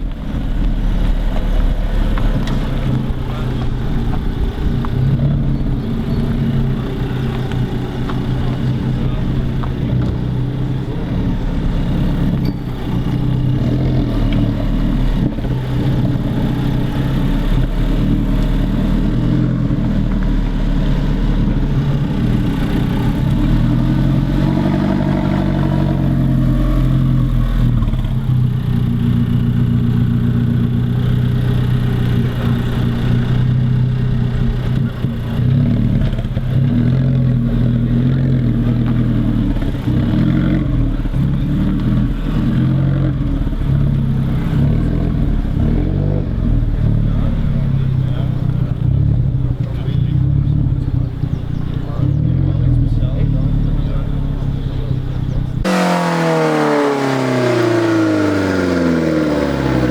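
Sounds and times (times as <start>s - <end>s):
car engine idling: 0.0s - 59.9s
engine revving: 0.0s - 59.9s.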